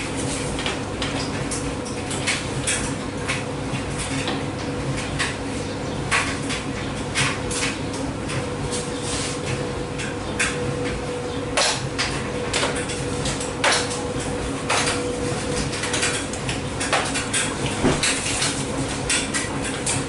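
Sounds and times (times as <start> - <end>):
washer-dryer motor hum: 0.0 - 20.0.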